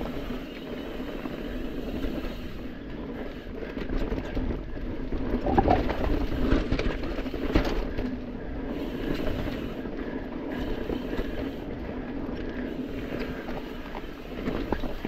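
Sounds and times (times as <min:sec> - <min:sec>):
bike chain and frame rattling: 0:00.0 - 0:15.0
bike tyres rumbling over dirt: 0:00.0 - 0:15.0.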